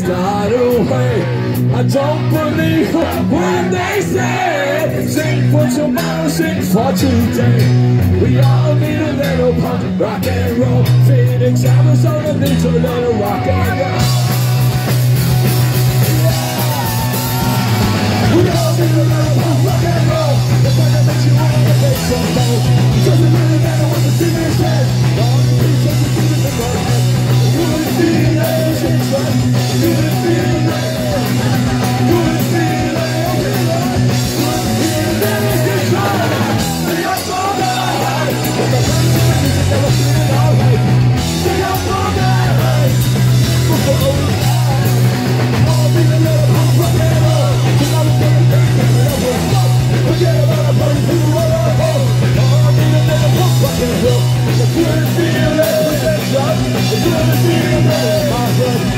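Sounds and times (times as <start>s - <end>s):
person singing into microphone: 0.0s - 14.4s, 16.2s - 58.9s
punk rock band playing: 0.0s - 58.9s.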